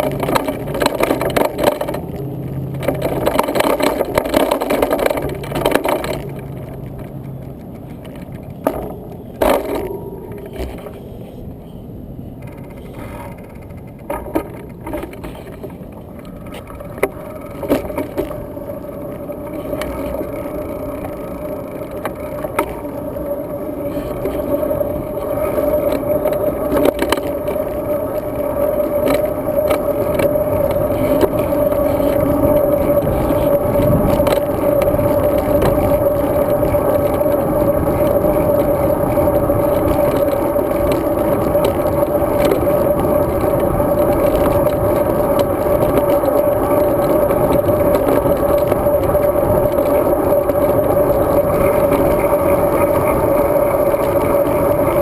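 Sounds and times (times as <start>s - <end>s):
bike knocks and rattles: 0.0s - 11.4s, 12.3s - 55.0s
steady hum: 0.0s - 55.0s
wind and tyre noise: 0.0s - 55.0s.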